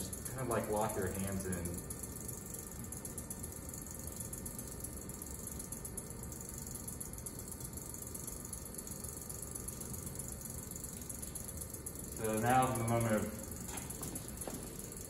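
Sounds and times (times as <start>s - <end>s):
potter's wheel whirring: 0.0s - 15.0s.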